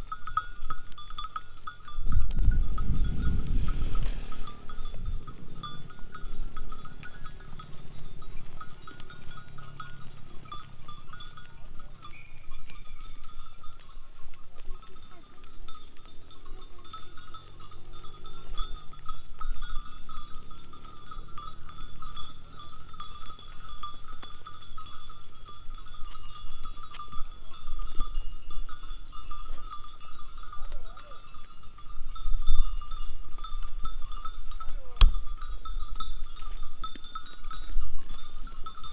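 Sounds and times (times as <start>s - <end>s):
animal bells clinking and jangling: 0.0s - 38.9s.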